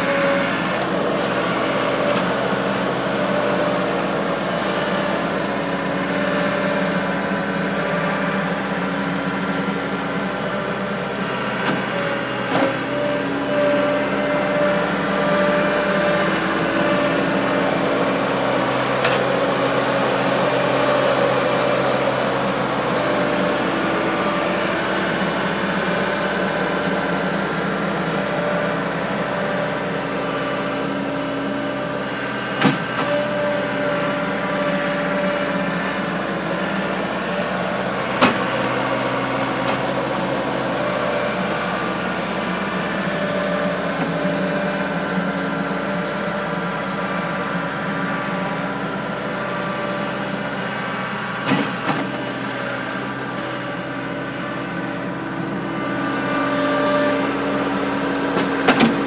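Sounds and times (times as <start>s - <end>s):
skid steer engine running: 0.0s - 59.0s.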